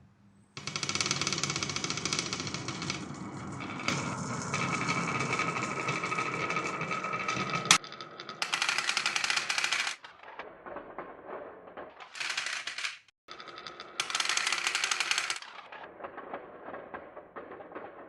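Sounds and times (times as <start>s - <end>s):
marbles rolling and clattering: 0.6s - 18.0s.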